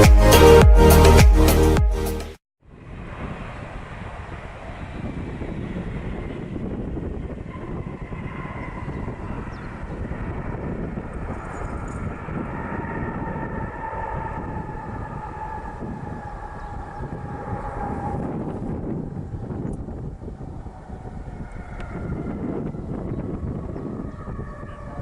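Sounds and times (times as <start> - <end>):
jet engines rumbling and whining: 2.7 - 25.0
wind buffeting microphone: 2.7 - 25.0.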